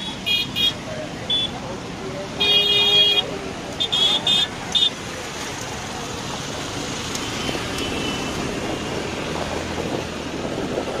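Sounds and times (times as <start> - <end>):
motorcycles and scooters in traffic: 0.0 - 11.0.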